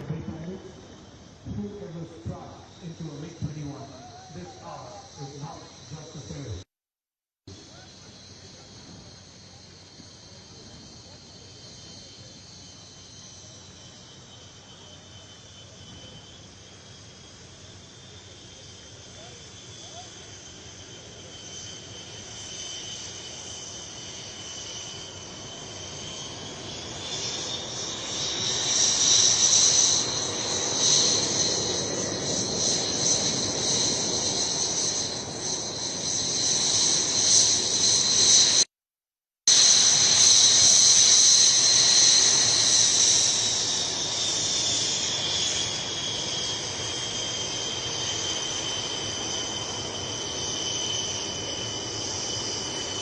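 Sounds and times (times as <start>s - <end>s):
jet engine passing by: 0.0s - 6.7s, 7.5s - 38.7s, 39.5s - 53.0s.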